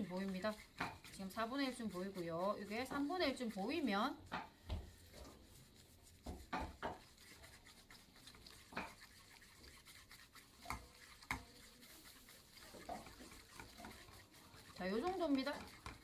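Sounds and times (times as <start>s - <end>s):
chopsticks scraping frying pan: 0.0s - 4.5s, 5.1s - 16.0s.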